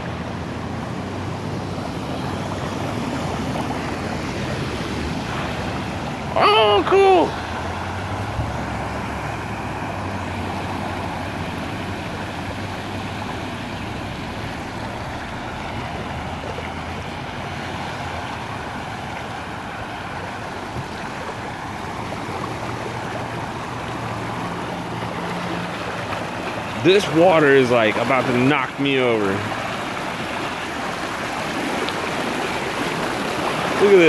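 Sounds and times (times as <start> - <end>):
floodwater rushing: 0.0 - 34.0
truck engine humming: 0.0 - 34.0
tyres splashing water: 0.0 - 34.0.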